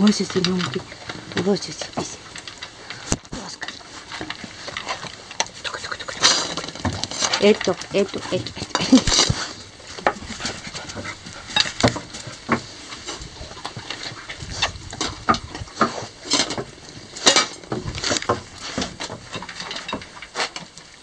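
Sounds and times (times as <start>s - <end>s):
dogs crunching kibble: 0.0s - 21.0s.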